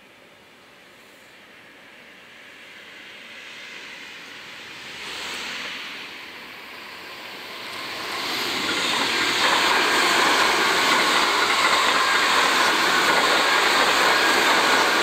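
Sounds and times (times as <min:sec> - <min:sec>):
electric train passing: 0:01.5 - 0:15.0.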